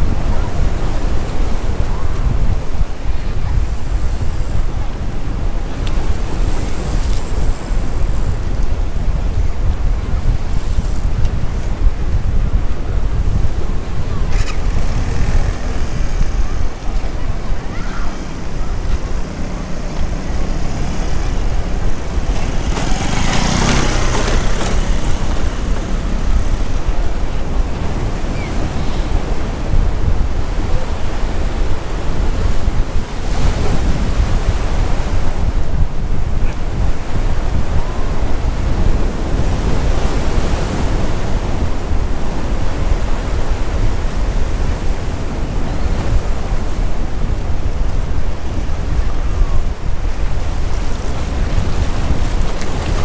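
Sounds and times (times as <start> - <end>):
sea surf breaking: 0.0 - 53.0
wind rumbling on microphone: 0.0 - 53.0.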